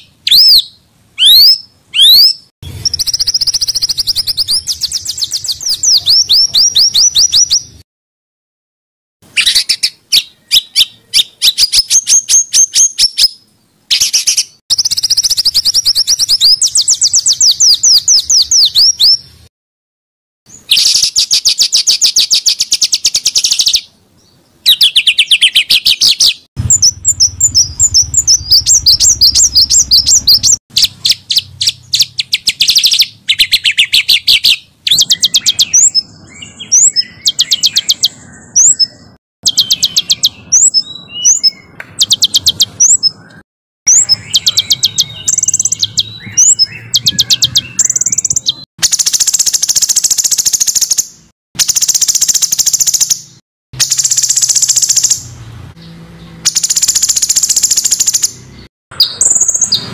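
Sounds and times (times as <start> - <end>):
songbirds chattering and trilling: 0.0 - 7.8, 9.2 - 19.5, 20.5 - 59.9.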